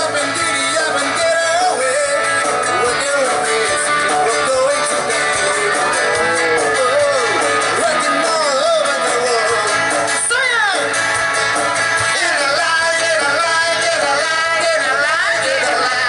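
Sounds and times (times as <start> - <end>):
man singing: 0.0 - 11.0, 12.0 - 16.0
live rock band: 0.0 - 16.0.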